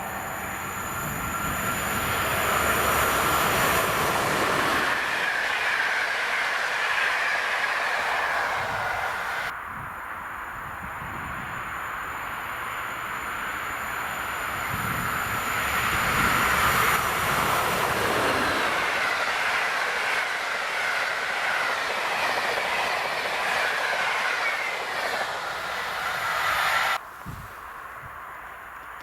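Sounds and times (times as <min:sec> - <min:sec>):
train wheels rushing on rails: 0:00.0 - 0:09.6, 0:11.0 - 0:28.2.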